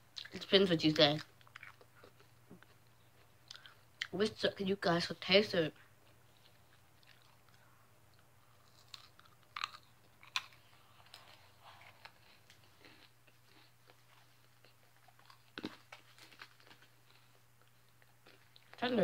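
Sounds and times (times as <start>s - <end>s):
person chewing food: 1.2s - 4.1s, 6.0s - 18.8s.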